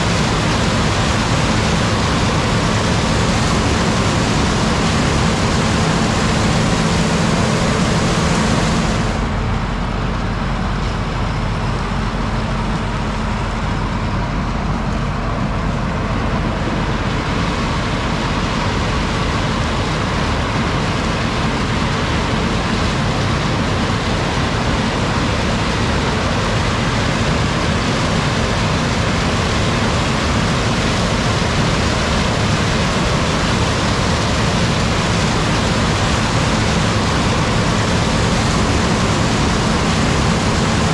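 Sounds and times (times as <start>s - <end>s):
farm machinery droning: 0.0s - 40.9s.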